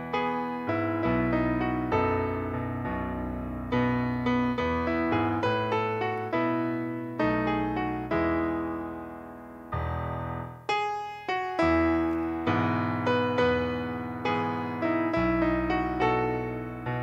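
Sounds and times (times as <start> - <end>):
keyboard playing hymn chords: 0.0 - 17.0.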